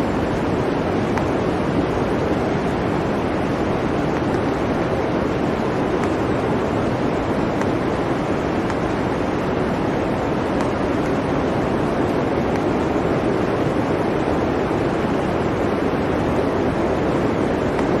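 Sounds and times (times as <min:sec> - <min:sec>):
blizzard wind blowing: 0:00.0 - 0:18.0.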